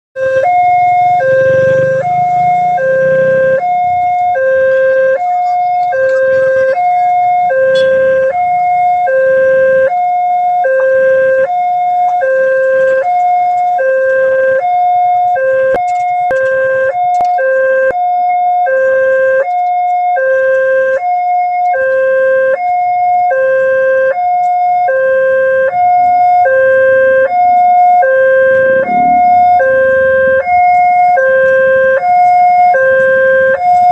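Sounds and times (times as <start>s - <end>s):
electronic two-tone crossing alarm: 0.2s - 33.9s.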